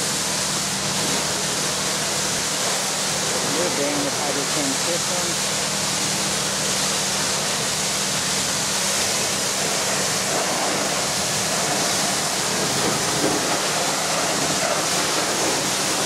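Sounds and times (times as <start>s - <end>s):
pressure washer spraying: 0.0s - 16.0s.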